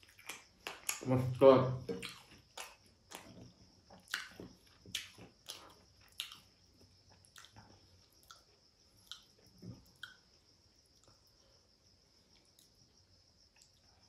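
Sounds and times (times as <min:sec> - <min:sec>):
person chewing food: 0:00.0 - 0:11.5.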